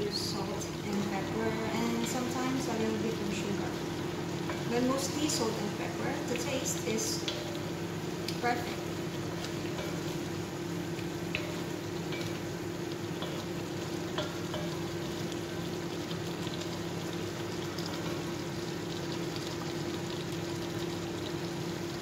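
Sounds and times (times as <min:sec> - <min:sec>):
chicken sizzling in a wok: 0:00.0 - 0:22.0.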